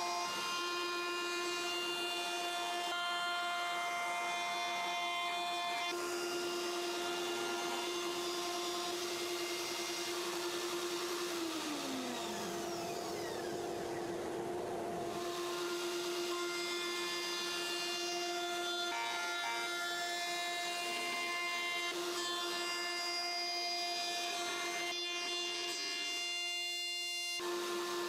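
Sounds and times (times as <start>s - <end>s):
router motor whine: 0.0s - 28.0s.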